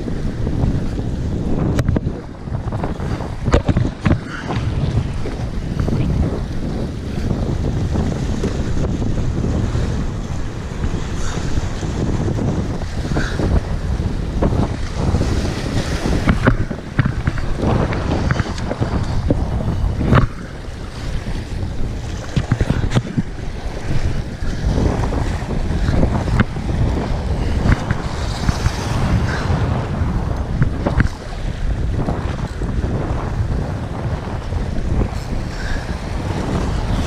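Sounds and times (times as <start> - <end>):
waves washing against rocks: 0.0 - 37.0
wind buffeting microphone: 0.0 - 37.0.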